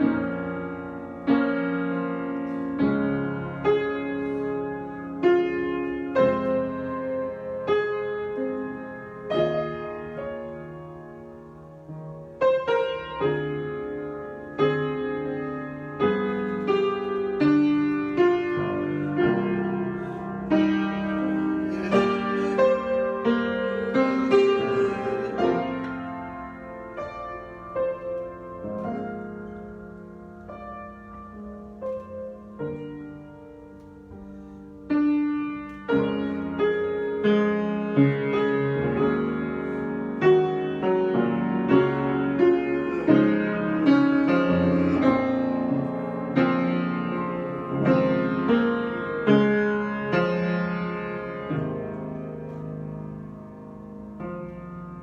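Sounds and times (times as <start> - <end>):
improvised piano playing: 0.0 - 55.0.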